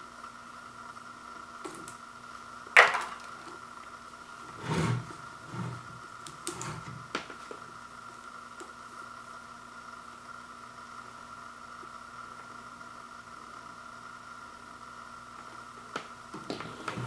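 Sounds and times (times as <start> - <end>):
low electrical hum and hiss: 0.0 - 17.0.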